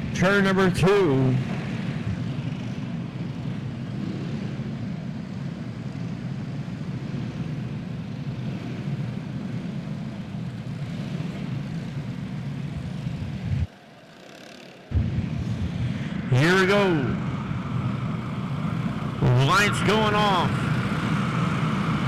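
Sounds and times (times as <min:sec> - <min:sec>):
racing kart engines droning: 0:00.0 - 0:22.0.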